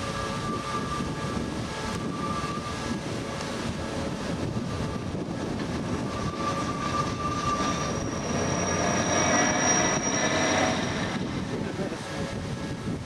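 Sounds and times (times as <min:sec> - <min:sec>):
high steady whining tones: 0:00.0 - 0:13.0
train rumbling along track: 0:00.0 - 0:13.0.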